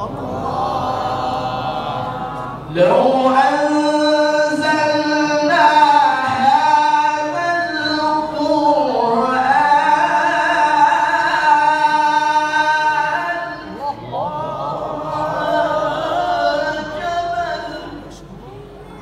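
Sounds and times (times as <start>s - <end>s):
man reciting melodically: 0.0s - 18.4s.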